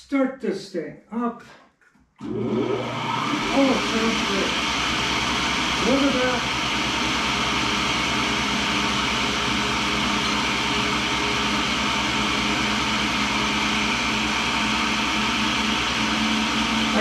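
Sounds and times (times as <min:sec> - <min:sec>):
grinder motor humming: 0:02.2 - 0:17.0.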